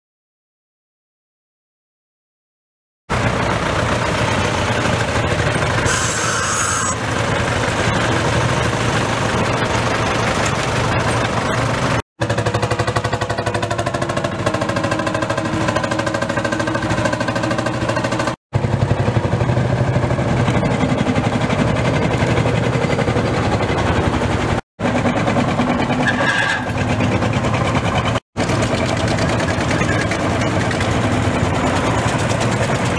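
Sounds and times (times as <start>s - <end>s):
tractor engines running: 3.1s - 32.9s.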